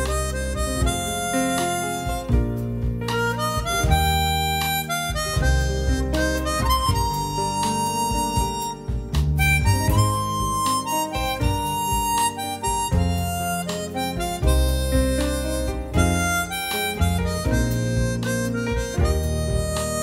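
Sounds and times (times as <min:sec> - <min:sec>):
backing accompaniment: 0:00.0 - 0:20.0
bass line: 0:00.0 - 0:20.0
saxophone melody: 0:00.0 - 0:20.0.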